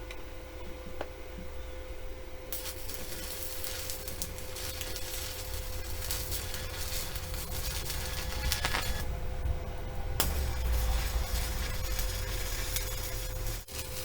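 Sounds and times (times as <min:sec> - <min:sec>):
welding arc sizzling crackle: 0:02.5 - 0:14.0.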